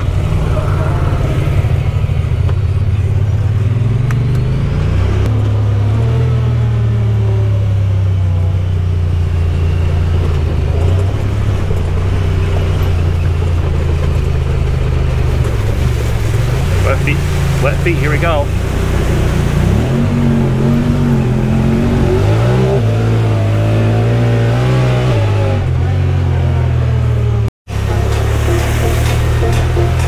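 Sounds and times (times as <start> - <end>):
utility vehicle engine droning: 0.0 - 30.0.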